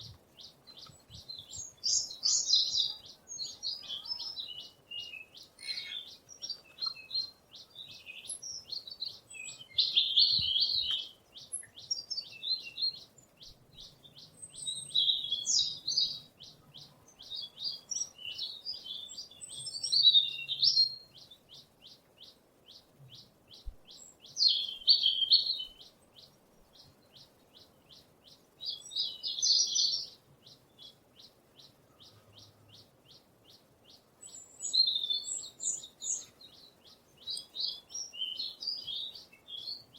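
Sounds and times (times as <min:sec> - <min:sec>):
songbirds warbling: 0:00.0 - 0:39.9.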